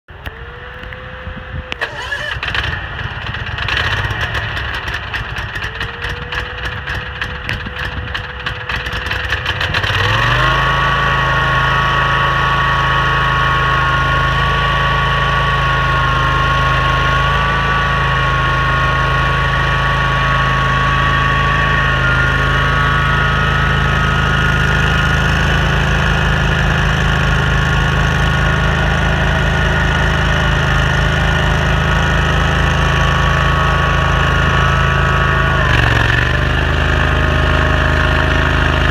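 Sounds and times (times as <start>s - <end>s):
engine cranking and running: 0.1s - 38.9s.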